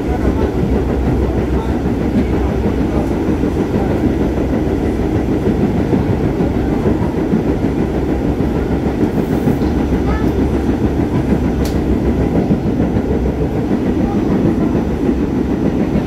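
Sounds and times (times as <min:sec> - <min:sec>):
subway car running along track: 0:00.0 - 0:16.0.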